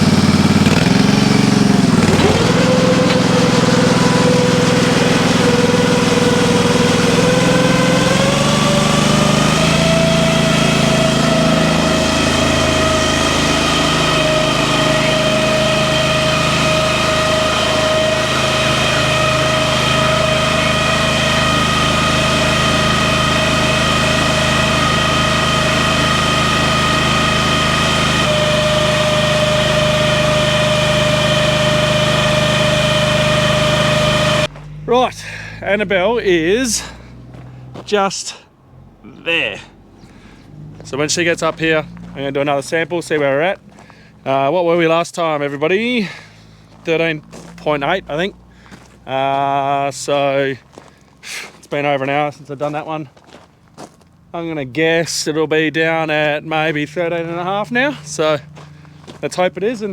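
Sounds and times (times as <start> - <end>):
farm machinery engine whining: 0.0 - 59.9.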